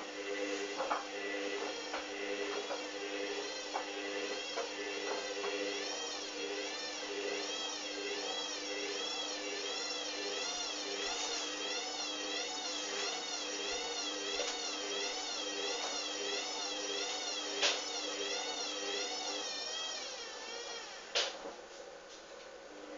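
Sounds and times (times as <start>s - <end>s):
washing machine motor whine: 0.0s - 22.9s.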